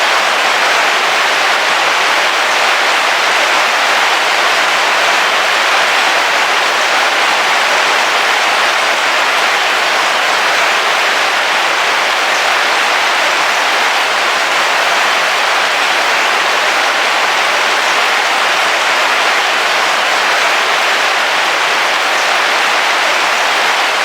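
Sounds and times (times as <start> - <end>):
heavy rain on a car roof: 0.0 - 24.0.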